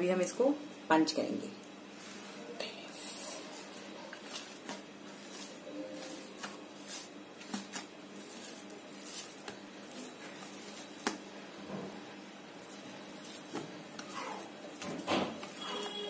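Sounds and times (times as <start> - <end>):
bread dough squishing: 3.0 - 16.0.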